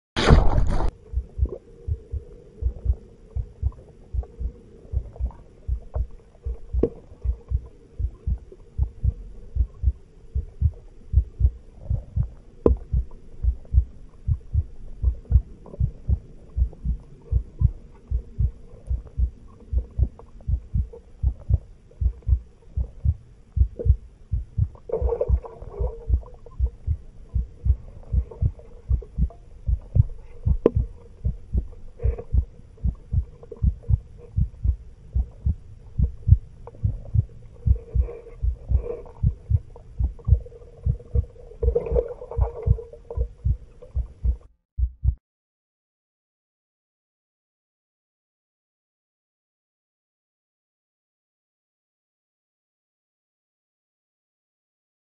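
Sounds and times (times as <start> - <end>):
constant hum: 0.2 - 44.5.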